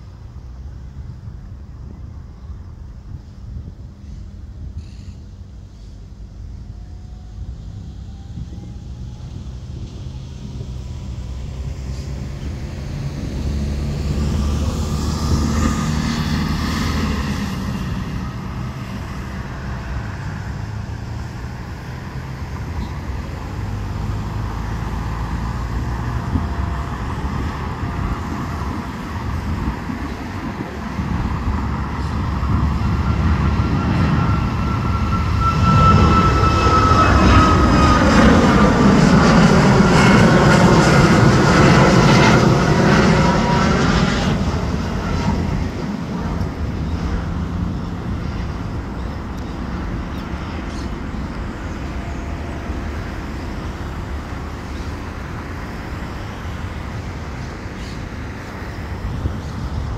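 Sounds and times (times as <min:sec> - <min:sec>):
high jet engine whine: 0:00.0 - 0:59.9
jet engines at takeoff: 0:00.0 - 0:59.9
road traffic passing: 0:00.0 - 0:59.9.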